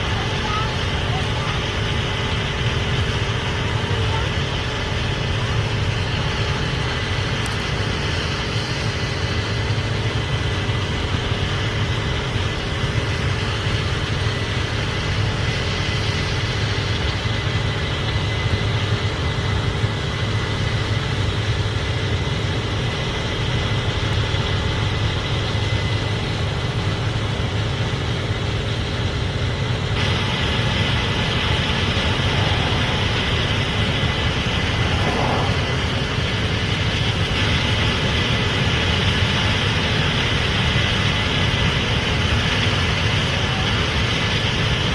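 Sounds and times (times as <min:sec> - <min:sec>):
combine engine drone: 0:00.0 - 0:44.9
faint steady whine: 0:00.0 - 0:44.9.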